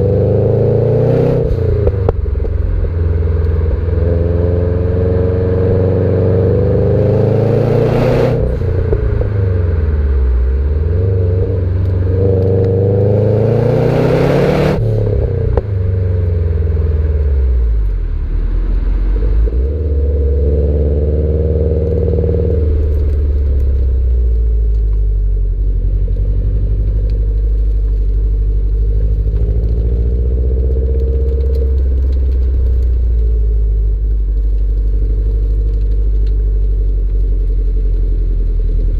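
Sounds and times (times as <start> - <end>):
car engine revving: 0.0 - 36.6.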